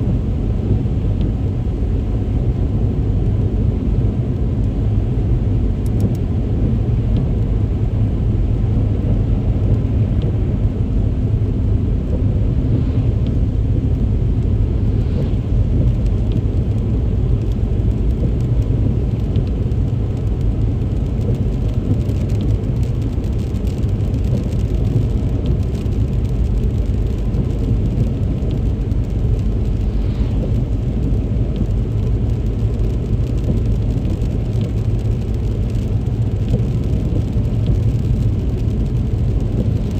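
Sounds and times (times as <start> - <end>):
car engine and tyres rumbling: 0.0 - 39.9
rain hissing: 7.8 - 39.9.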